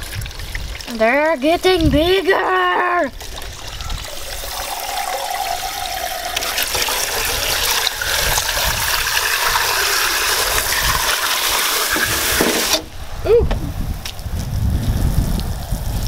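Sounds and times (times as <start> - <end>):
water gushing from garden hose: 0.0 - 12.9.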